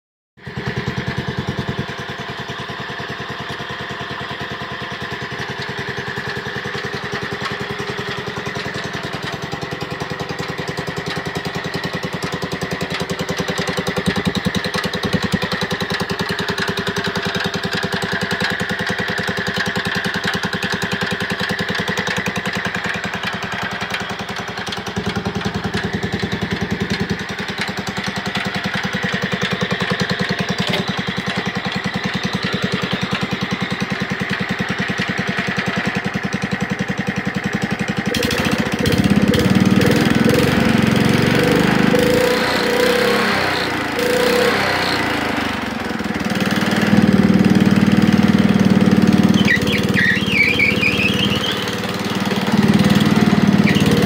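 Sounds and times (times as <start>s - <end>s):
riding mower engine running: 0.4s - 54.0s.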